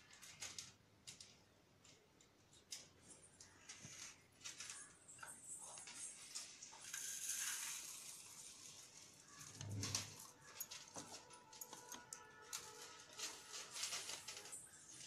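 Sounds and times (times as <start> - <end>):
plastic piping bag crinkling: 2.8 - 15.0.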